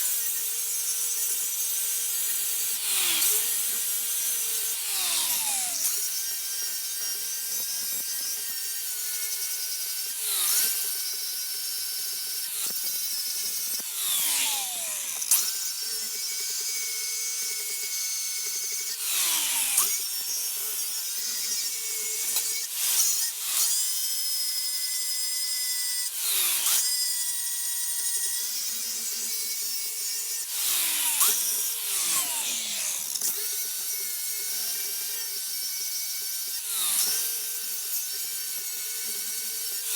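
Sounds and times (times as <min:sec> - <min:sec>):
power tool motor running: 0:00.0 - 0:39.9.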